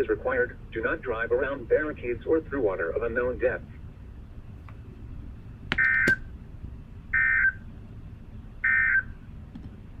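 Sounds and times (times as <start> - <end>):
steady radio hiss: 0.0 - 10.0.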